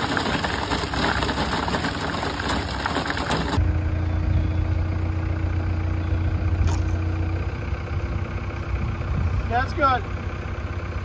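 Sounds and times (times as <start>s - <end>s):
engine idling with low hum: 0.0s - 11.0s.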